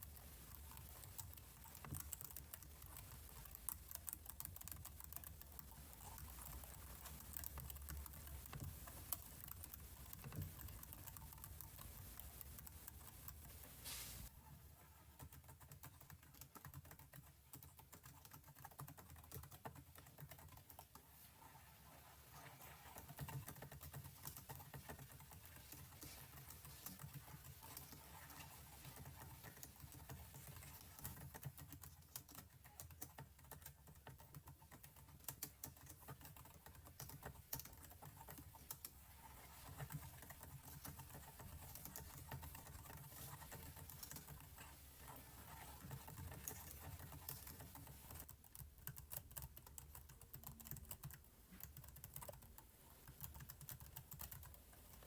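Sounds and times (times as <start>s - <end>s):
computer keyboard typing: 0.0s - 13.8s, 15.2s - 21.0s, 22.6s - 55.0s.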